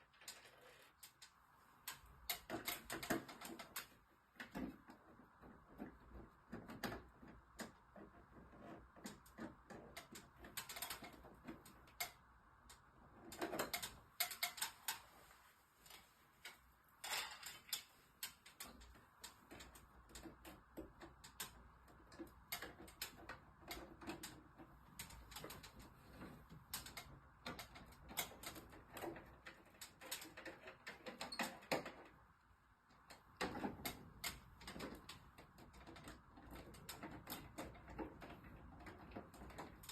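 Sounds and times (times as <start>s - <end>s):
small tools clicking and rattling: 0.0s - 32.2s, 32.9s - 39.9s.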